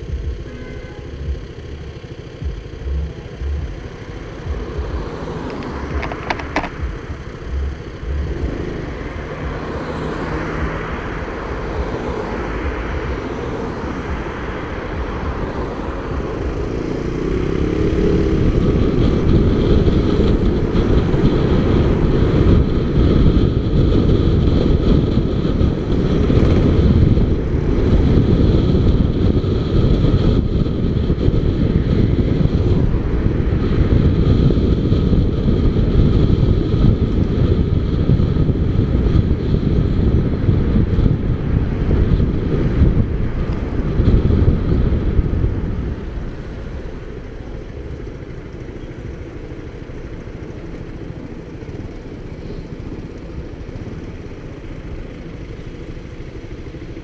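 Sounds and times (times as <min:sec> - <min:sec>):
motorcycle engine running: 0:00.0 - 0:57.0
wind rumble on microphone: 0:02.4 - 0:57.0.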